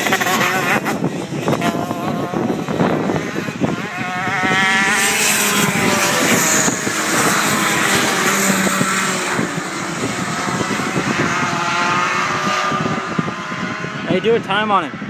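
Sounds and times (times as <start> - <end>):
kart engines racing: 0.0 - 15.0.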